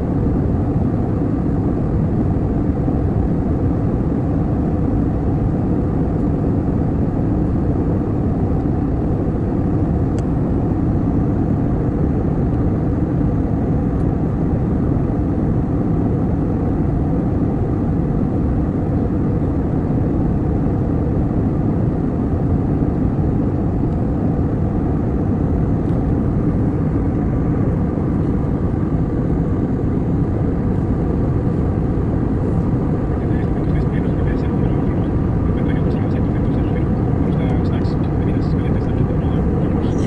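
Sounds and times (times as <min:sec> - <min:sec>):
airliner cabin engine rush: 0:00.0 - 0:40.0.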